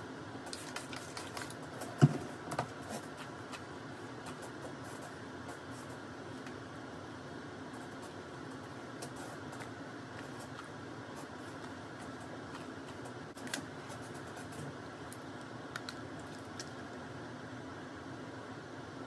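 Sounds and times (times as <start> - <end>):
room noise hiss: 0.0 - 19.0.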